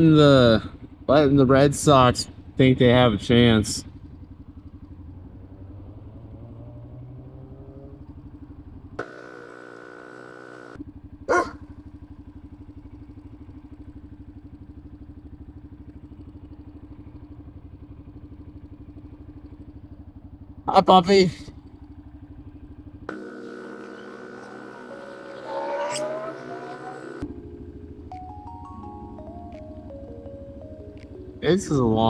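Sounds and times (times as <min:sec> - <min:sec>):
motorcycle engine idling: 0:00.0 - 0:06.4, 0:08.0 - 0:27.7.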